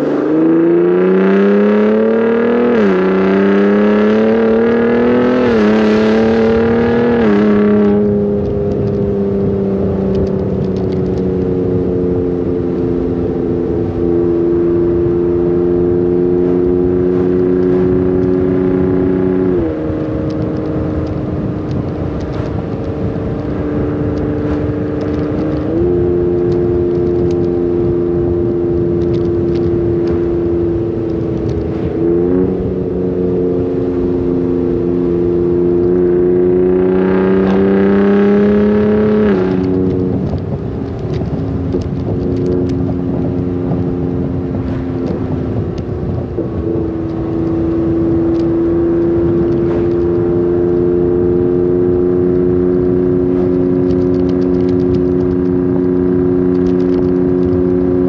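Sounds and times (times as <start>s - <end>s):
truck exhaust accelerating and shifting: 0.0s - 58.0s.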